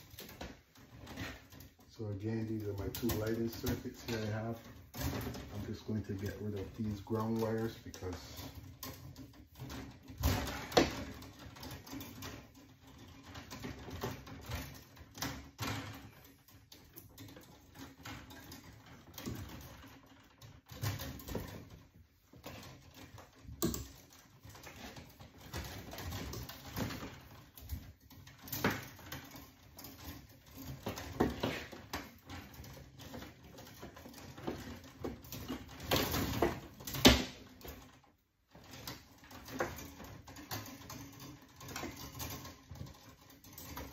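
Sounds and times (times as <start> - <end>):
electrical cables rustling and scraping: 0.0 - 43.9
small clicks and knocks: 0.0 - 43.9.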